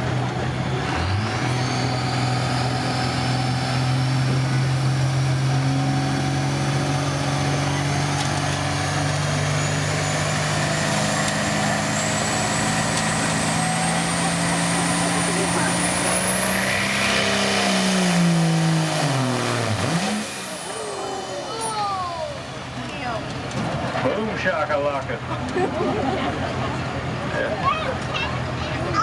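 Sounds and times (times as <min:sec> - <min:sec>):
pulling vehicle engine under load: 0:00.0 - 0:29.0.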